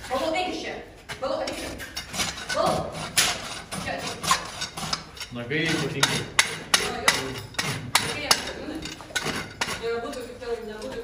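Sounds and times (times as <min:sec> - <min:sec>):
rasp filing a hoof: 0:01.3 - 0:10.2.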